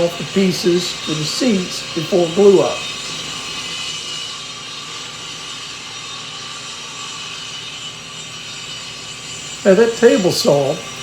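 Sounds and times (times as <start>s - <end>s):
table saw whining: 0.0s - 11.0s.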